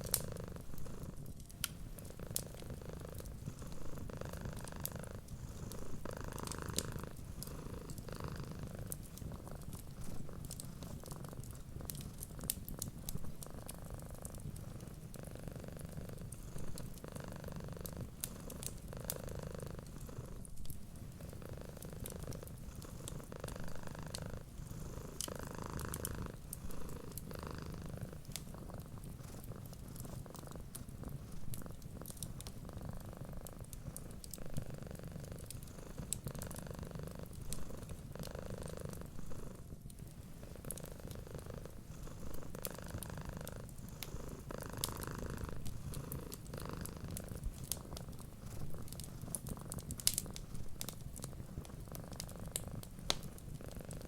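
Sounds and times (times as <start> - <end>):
cat purring: 0.0 - 54.0
wood fire crackling: 0.0 - 54.0.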